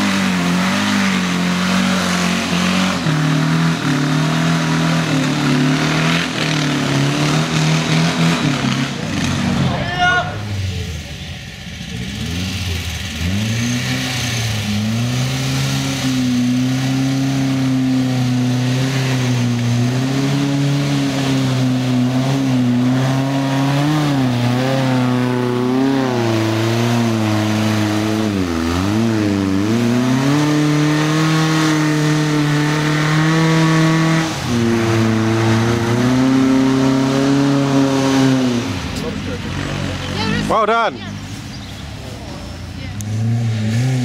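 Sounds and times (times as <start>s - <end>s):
car engine revving under load: 0.0s - 44.0s.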